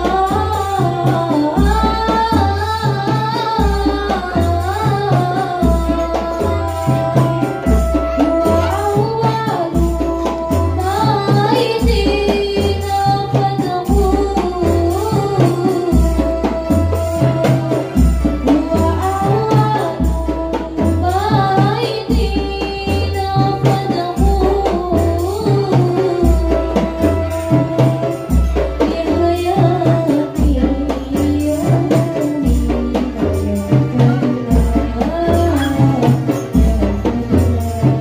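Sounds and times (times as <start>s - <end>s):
girl singing into microphone: 0.0s - 38.0s
hand frame drums beating: 0.0s - 38.0s.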